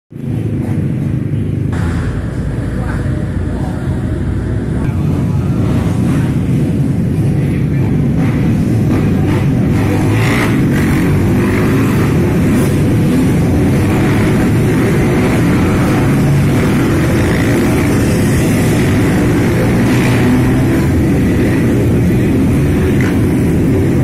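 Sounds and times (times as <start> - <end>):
motorcycles riding past: 0.2 - 24.0.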